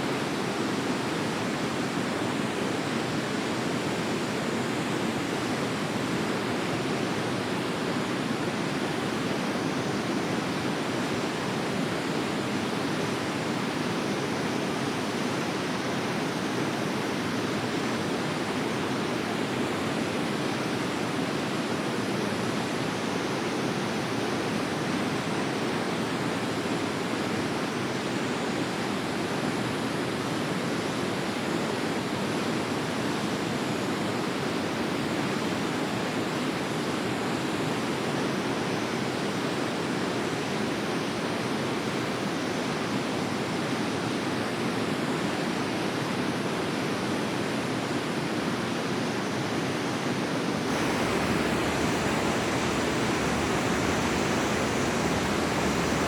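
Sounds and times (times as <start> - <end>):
river water flowing: 0.1 - 56.0.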